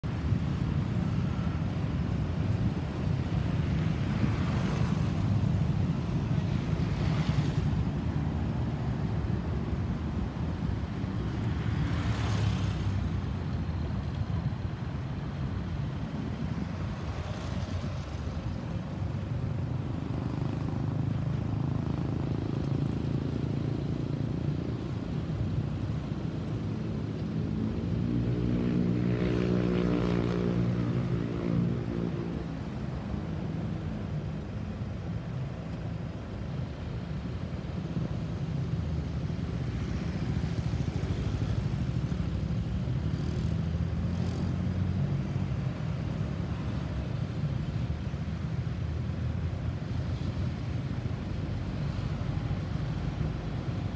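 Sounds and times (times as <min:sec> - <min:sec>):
low rumble of road traffic: 0:00.0 - 0:53.9.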